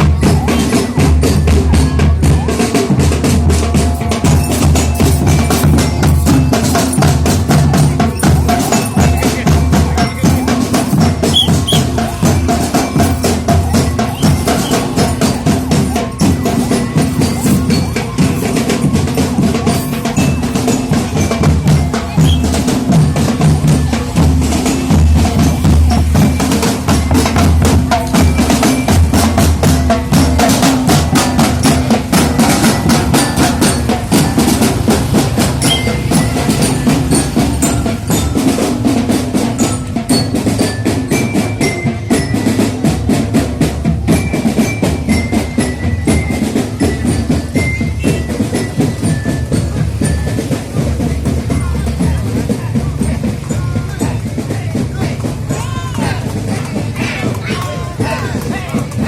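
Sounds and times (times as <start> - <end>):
procession music with drumming: 0.0 - 59.0.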